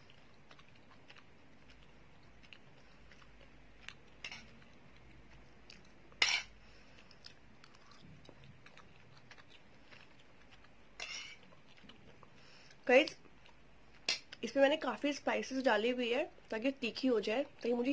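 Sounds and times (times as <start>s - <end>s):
soft chewing: 0.0s - 14.5s.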